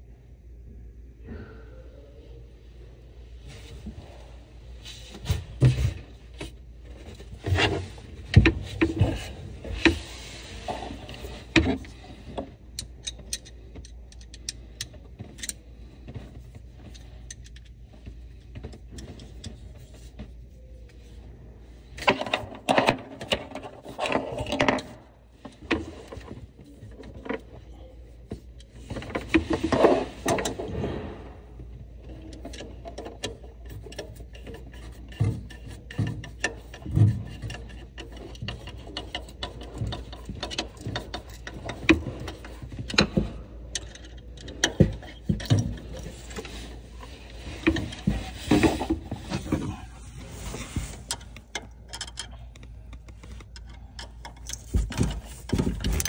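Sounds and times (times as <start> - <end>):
hoses clicking and rattling: 4.8 - 21.2, 21.8 - 56.0.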